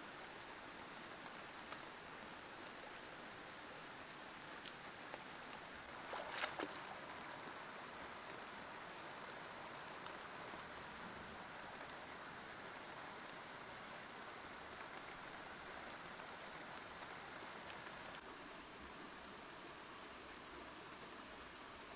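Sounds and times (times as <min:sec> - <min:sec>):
running water hiss: 0:00.0 - 0:21.9.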